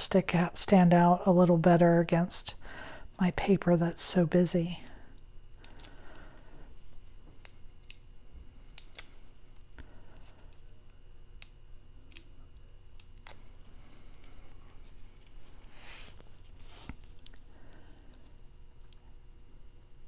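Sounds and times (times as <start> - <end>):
faint background hum: 0.0 - 20.0.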